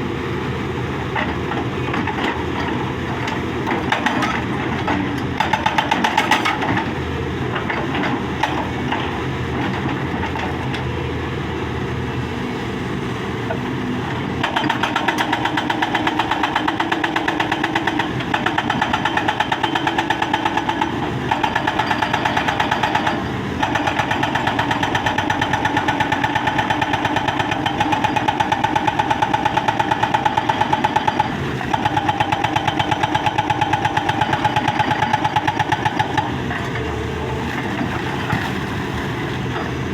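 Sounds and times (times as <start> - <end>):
diesel engine running: 0.0 - 39.9
hydraulic breaker pounding stone: 1.1 - 10.6, 14.2 - 39.8.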